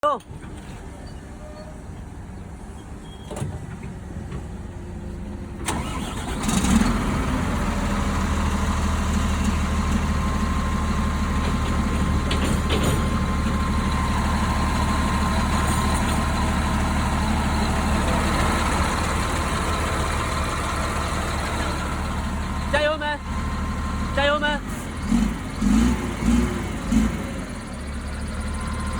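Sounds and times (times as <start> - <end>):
diesel engine idling: 0.0 - 28.9
diesel truck engine starting: 0.0 - 28.9.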